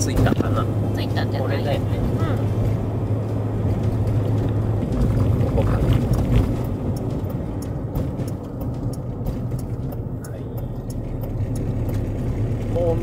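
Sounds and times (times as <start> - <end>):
van engine and road hum: 0.0 - 13.0.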